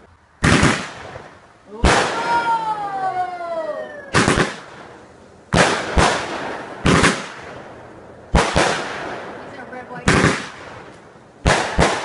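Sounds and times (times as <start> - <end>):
fireworks bangs with crackle: 0.4 - 2.6, 4.1 - 12.0.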